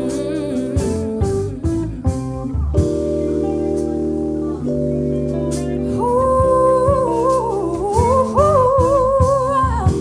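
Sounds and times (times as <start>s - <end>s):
live band playing slow song: 0.0s - 10.0s.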